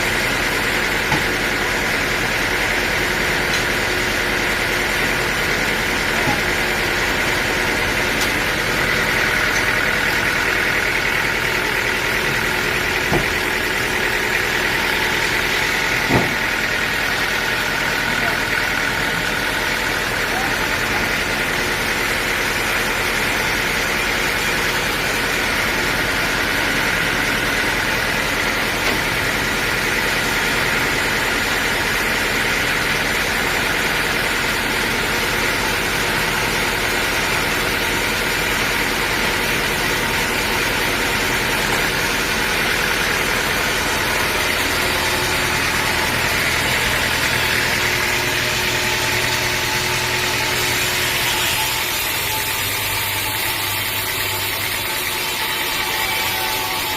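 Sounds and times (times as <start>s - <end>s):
sawmill machinery running: 0.0s - 56.9s.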